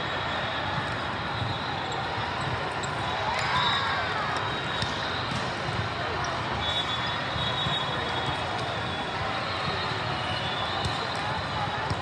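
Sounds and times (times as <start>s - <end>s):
crowd hubbub: 0.0s - 12.0s.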